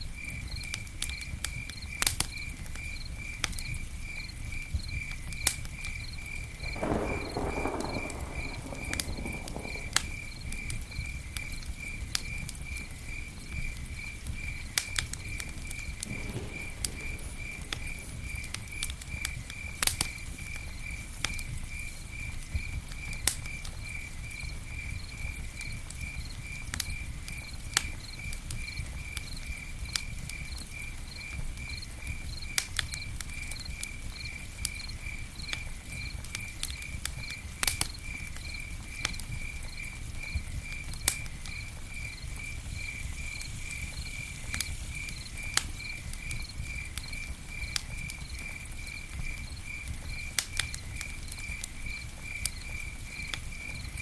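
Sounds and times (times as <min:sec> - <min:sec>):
campfire crackling: 0:00.0 - 0:54.0
cricket chirping: 0:00.0 - 0:54.0.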